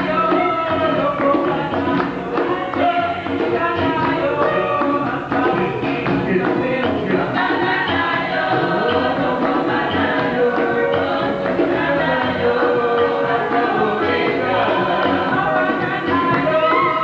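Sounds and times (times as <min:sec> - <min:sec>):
group of voices singing: 0:00.0 - 0:17.0
percussion beat: 0:00.0 - 0:17.0.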